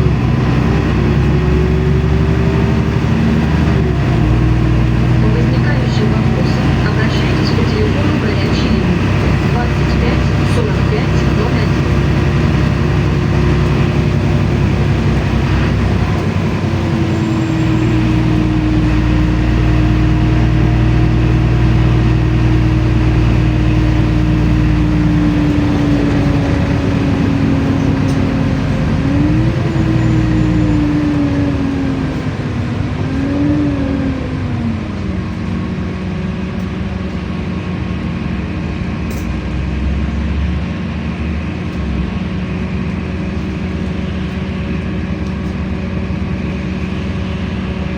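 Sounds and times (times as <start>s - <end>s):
bus engine hum: 0.0s - 47.9s
drivetrain whine: 0.0s - 47.9s.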